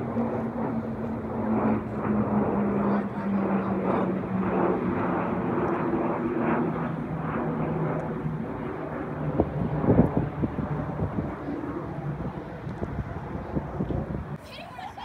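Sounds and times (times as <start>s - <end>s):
airliner engines droning: 0.0s - 15.0s.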